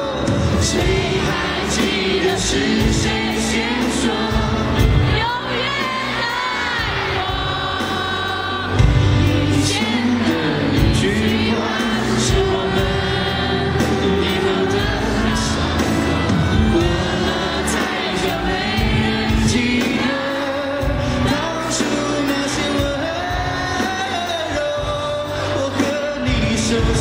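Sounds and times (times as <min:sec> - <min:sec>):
man singing amplified: 0:00.0 - 0:06.0, 0:07.2 - 0:27.0
distant live pop band: 0:00.0 - 0:27.0.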